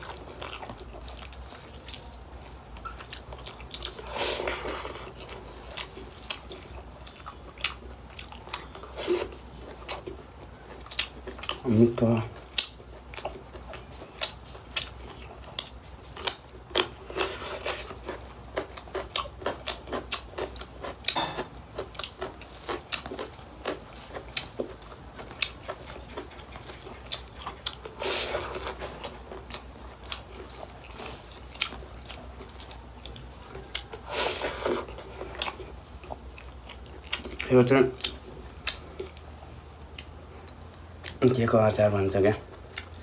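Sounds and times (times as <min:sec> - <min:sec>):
person chewing food: 0:00.0 - 0:43.0.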